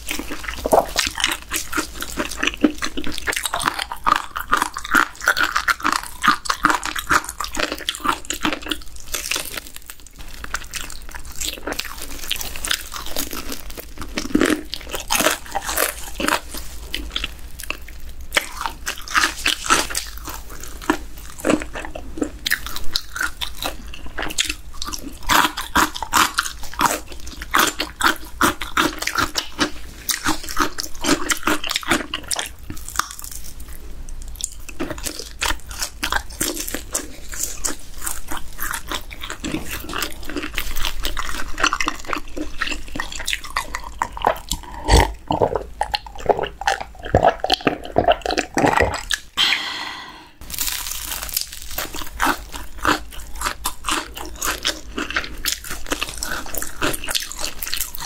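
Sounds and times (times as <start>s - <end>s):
crispy chicken crunching: 0.0s - 49.4s, 50.4s - 58.0s.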